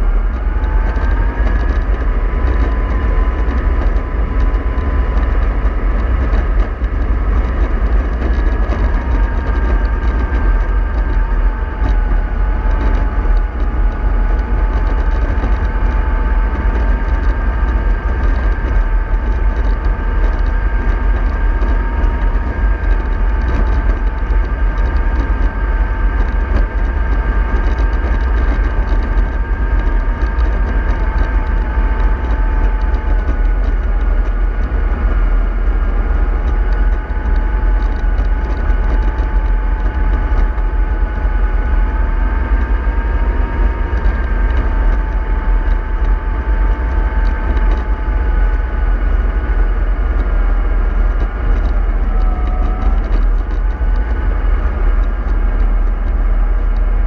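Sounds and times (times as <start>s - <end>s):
model bus motor whine: 0.0s - 57.0s.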